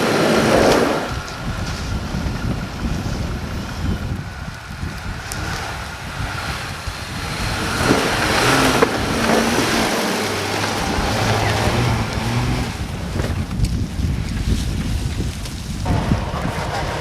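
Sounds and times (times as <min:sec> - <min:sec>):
vehicle engine hum: 0:00.0 - 0:17.0
wind and road noise: 0:00.0 - 0:17.0.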